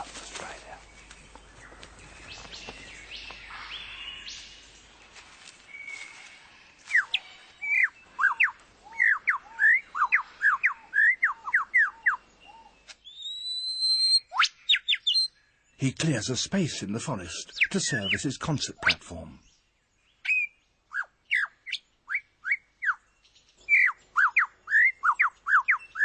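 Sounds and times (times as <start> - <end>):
faint forest bird calls: 0.0 - 26.0.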